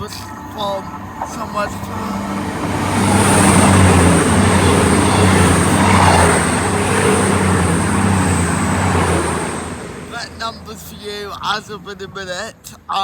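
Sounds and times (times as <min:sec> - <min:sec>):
wheel and air rush: 0:00.0 - 0:12.1
high whine: 0:00.0 - 0:12.7
diesel engine drone: 0:00.0 - 0:13.0.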